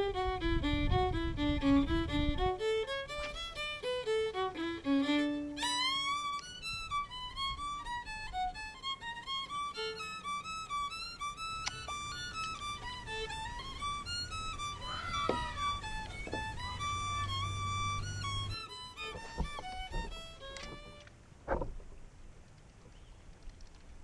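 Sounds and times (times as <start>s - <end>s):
fiddle playing quick melody: 0.0s - 21.1s.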